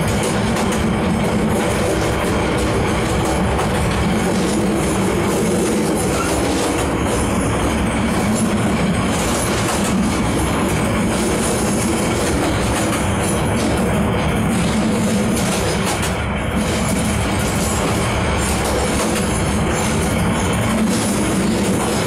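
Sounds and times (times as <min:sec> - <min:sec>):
moving train running noise: 0:00.0 - 0:22.0.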